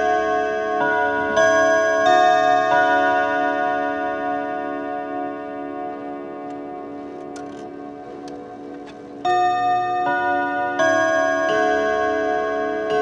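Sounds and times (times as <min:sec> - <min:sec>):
clock chiming on gong rods: 0:00.0 - 0:13.0.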